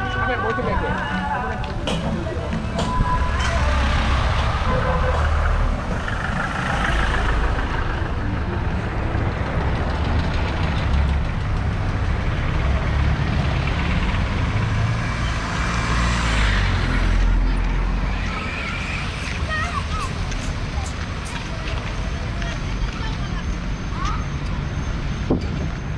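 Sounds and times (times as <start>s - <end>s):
low engine rumble: 0.0s - 23.1s
motor vehicles passing: 0.0s - 25.9s
road noise: 0.0s - 25.9s.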